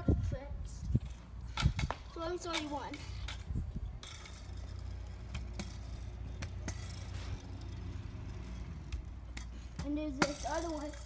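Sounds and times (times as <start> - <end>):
scooter wheels rolling on concrete: 0.0 - 11.0
scooter clicks and rattles: 0.9 - 11.0.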